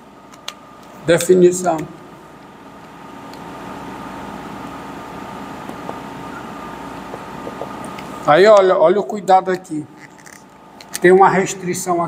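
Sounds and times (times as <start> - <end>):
air conditioning hum: 0.0 - 12.0.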